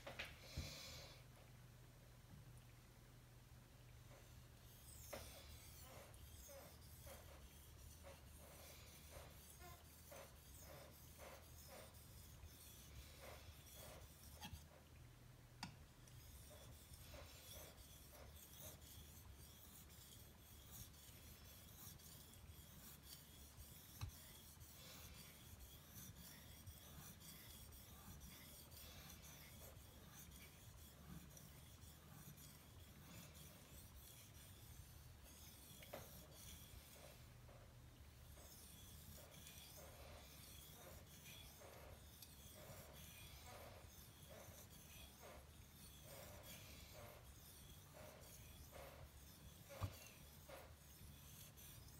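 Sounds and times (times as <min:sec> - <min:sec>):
knife scraping on a whetstone: 0:04.2 - 0:14.9, 0:16.0 - 0:51.9.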